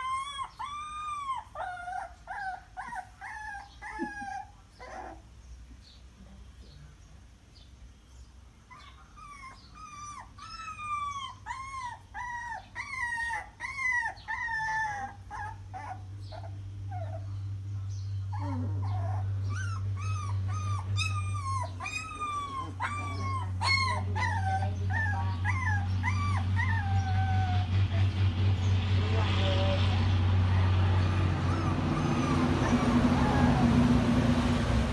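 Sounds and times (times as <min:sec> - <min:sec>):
puppies whimpering: 0:00.0 - 0:05.3, 0:08.6 - 0:28.0, 0:30.4 - 0:34.6.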